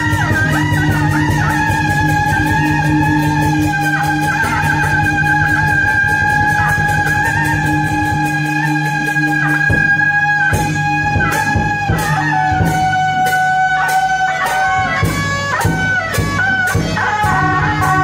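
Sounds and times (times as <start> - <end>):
percussion beats: 0.0 - 18.0
wind instrument melody: 0.0 - 18.0.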